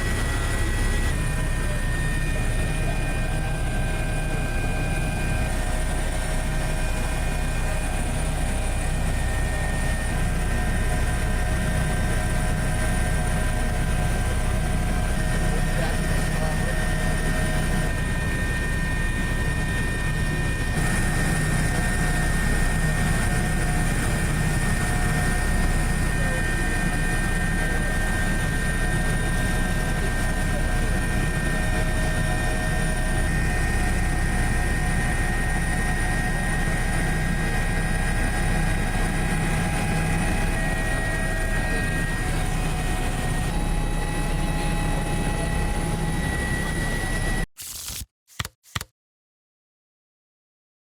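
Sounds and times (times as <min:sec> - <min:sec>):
aircraft engines droning: 0:00.0 - 0:47.4.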